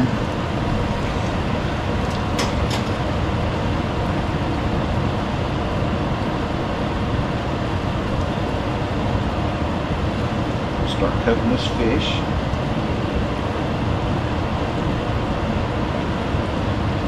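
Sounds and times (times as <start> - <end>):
vent fan running: 0.0 - 17.0.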